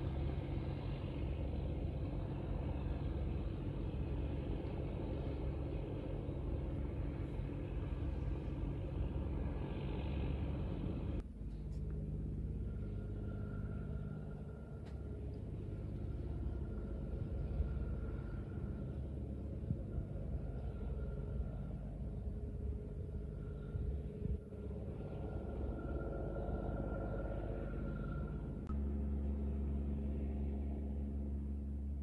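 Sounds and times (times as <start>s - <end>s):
faint steady whine: 0.0s - 32.0s
low engine rumble: 0.0s - 32.0s.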